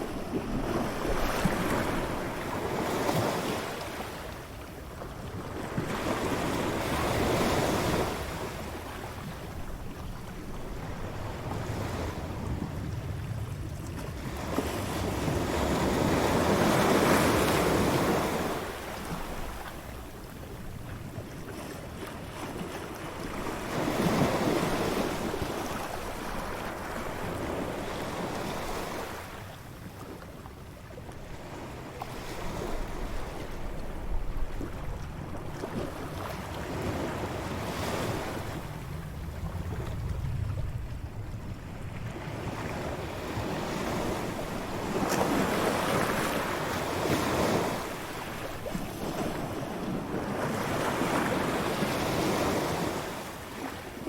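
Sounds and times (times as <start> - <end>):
waves breaking on beach: 0.0 - 30.4, 31.0 - 54.0.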